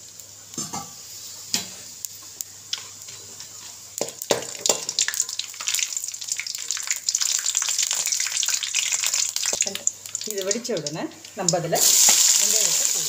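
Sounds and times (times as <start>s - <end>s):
spices crackling in hot oil: 0.0s - 13.0s.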